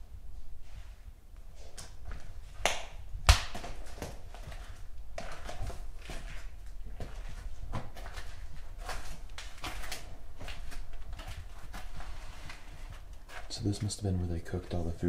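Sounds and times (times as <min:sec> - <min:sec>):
footsteps: 0:00.3 - 0:15.0.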